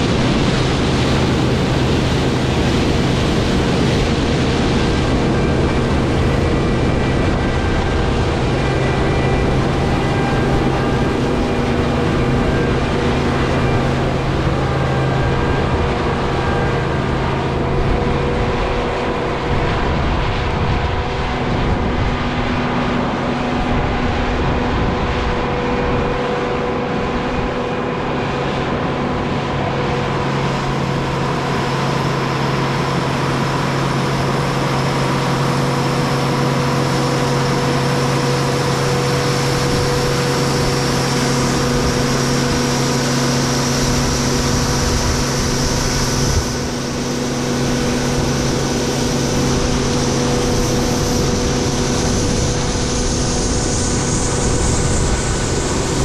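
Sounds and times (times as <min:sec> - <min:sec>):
machine noise with held tones: 0:00.0 - 0:56.0.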